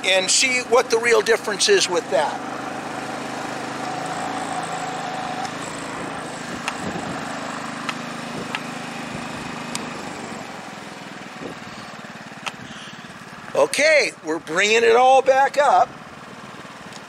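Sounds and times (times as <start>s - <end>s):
generator running: 0.0s - 17.0s.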